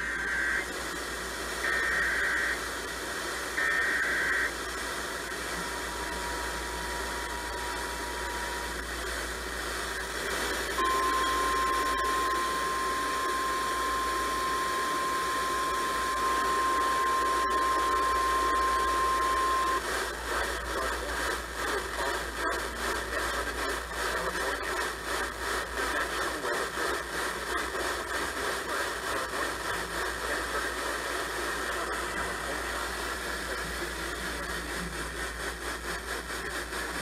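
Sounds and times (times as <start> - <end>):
digital data bursts: 0.0 - 1.0, 1.6 - 37.0
radio hiss: 0.0 - 37.0.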